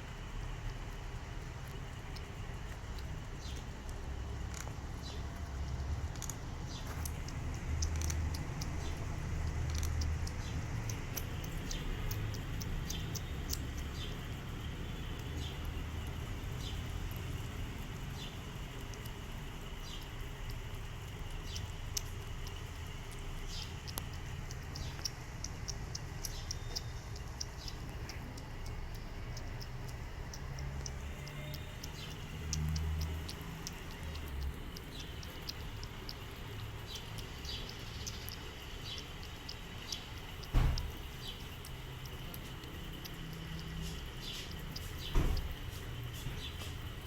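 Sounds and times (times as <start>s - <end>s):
kitten lapping and chewing: 0.0s - 47.0s
steady low rumble: 0.0s - 47.0s.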